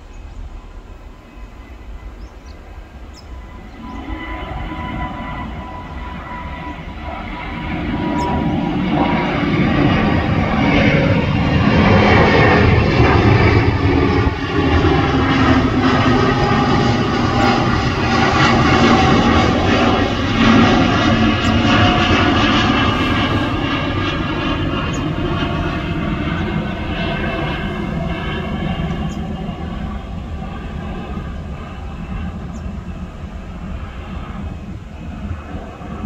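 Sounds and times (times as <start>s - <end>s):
jet engines rumbling overhead: 0.0s - 36.0s.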